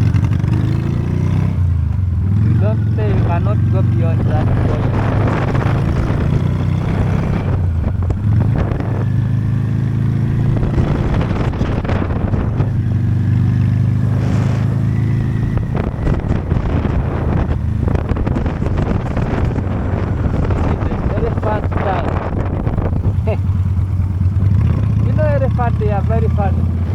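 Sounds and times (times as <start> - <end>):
motorcycle engine running: 0.0 - 26.9
wind buffeting microphone: 2.1 - 26.9.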